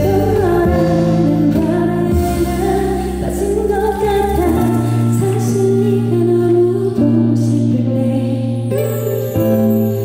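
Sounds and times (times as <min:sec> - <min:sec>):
woman singing into a microphone: 0:00.0 - 0:10.0.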